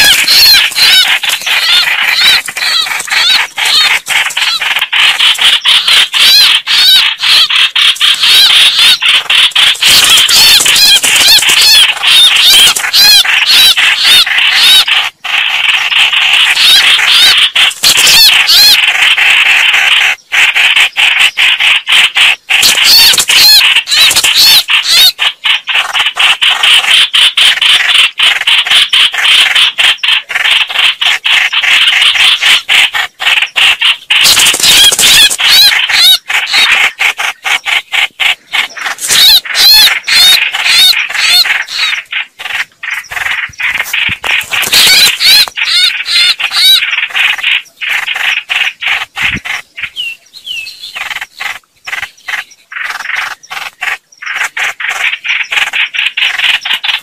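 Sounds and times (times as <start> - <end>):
birds chattering: 0.0 - 57.0.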